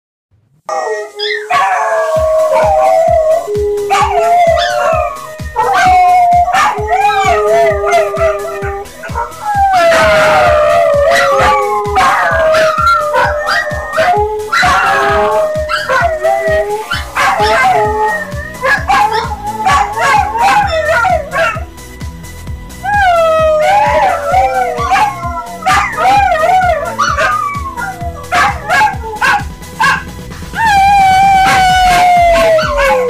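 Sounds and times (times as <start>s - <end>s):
dogs howling: 0.7s - 21.8s, 22.8s - 33.0s.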